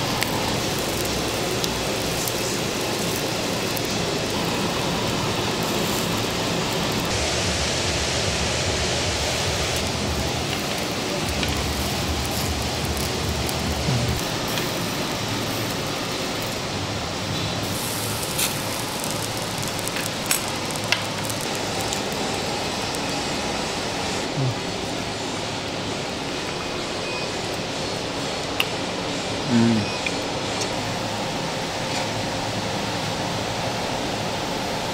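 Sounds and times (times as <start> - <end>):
meat sizzling on a charcoal grill: 0.0 - 34.9.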